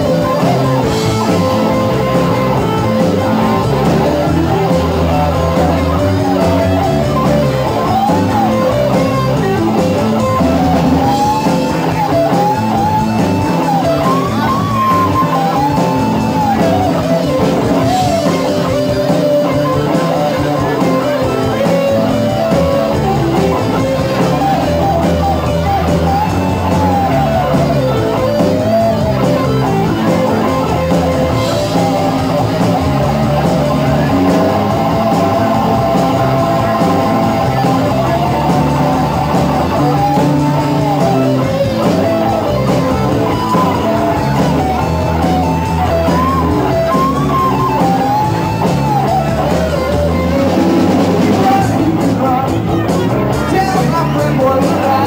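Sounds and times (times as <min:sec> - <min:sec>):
lead guitar line bending: 0:00.0 - 0:55.0
live rock band playing: 0:00.0 - 0:55.0.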